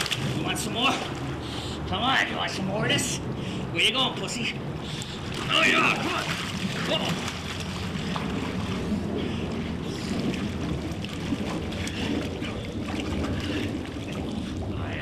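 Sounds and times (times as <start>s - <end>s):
pool water splashing: 0.0s - 15.0s
steady low rumble: 0.0s - 15.0s.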